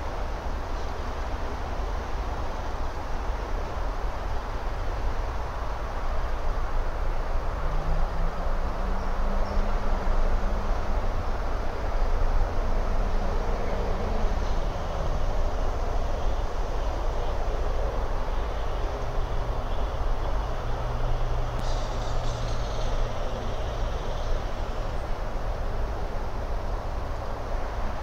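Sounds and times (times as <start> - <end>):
distant traffic rumble: 0.0 - 28.0
faint engine hum: 0.0 - 28.0.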